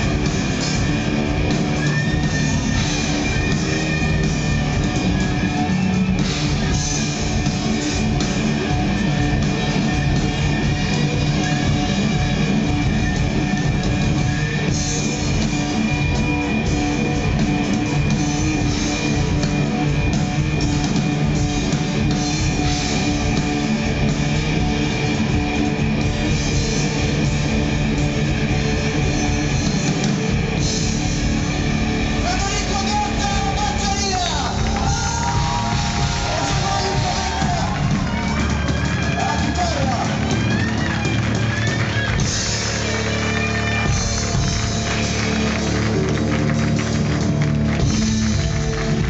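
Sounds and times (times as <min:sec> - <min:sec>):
bass guitar: 0:00.0 - 0:49.0
drum kit: 0:00.0 - 0:49.0.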